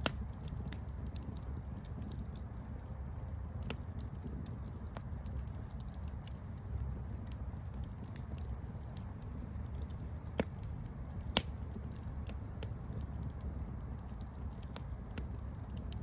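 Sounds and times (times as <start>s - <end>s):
burning wood pops: 0.0s - 16.0s
campfire crackling: 0.0s - 16.0s.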